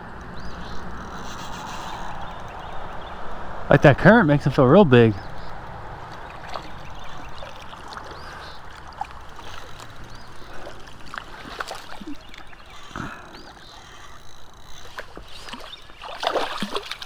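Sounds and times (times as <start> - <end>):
river current running: 0.0 - 17.0
small water splashes: 1.6 - 17.0
water dripping: 2.0 - 17.0.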